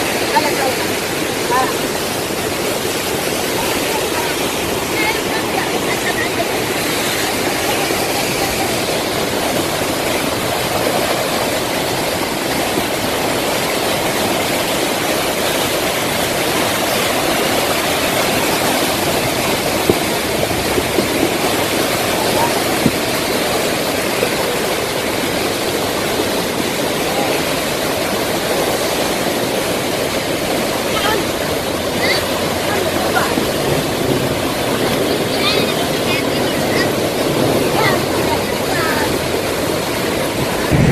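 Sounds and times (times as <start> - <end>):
water rushing down hillside: 0.0 - 40.9.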